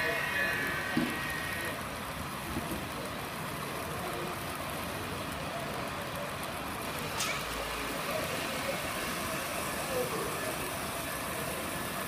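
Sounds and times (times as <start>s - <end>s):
model train wheels rolling: 0.0s - 12.0s.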